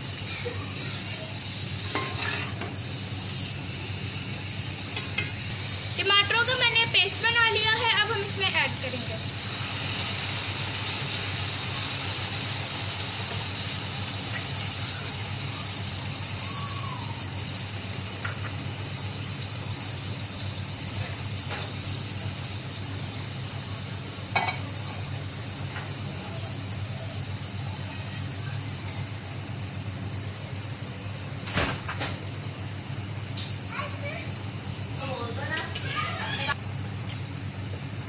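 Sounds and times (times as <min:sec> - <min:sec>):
food sizzling in a pot: 0:00.0 - 0:36.7.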